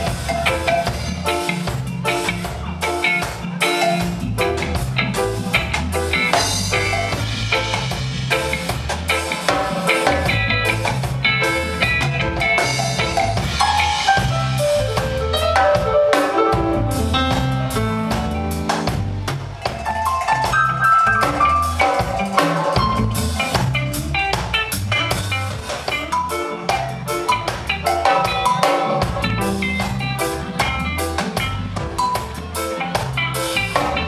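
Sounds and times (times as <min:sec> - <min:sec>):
drum kit beat: 0:00.0 - 0:34.0
electric bass line: 0:00.0 - 0:34.0
electric guitar: 0:00.0 - 0:34.0.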